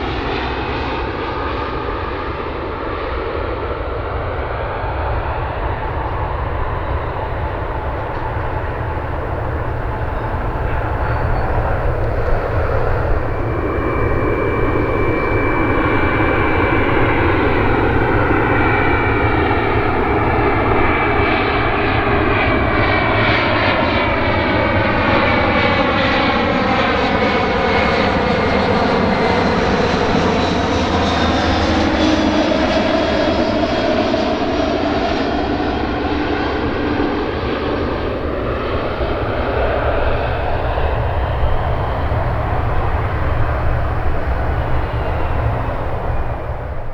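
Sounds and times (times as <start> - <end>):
airliner engine high whine: 0.0 - 46.9
airliner flying past: 0.0 - 46.9.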